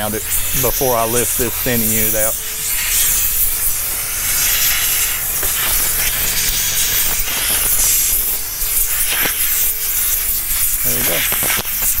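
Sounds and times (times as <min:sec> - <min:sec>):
air blow gun hissing: 0:00.0 - 0:12.0.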